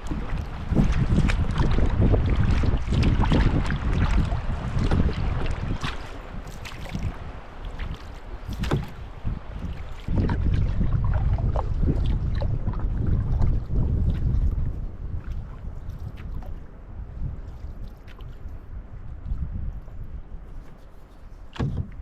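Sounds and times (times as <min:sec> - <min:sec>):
paddle splashing water: 0:00.0 - 0:22.0
wind buffeting microphone: 0:00.0 - 0:22.0.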